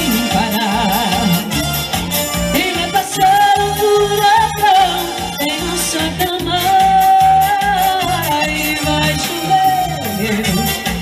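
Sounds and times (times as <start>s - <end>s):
live band music: 0.0s - 11.0s
person singing with vibrato: 0.0s - 11.0s.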